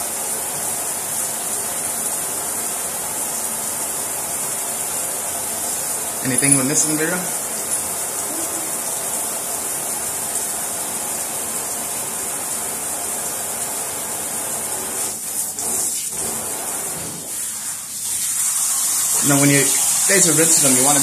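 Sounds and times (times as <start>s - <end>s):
shower water running into bathtub: 0.0s - 21.0s.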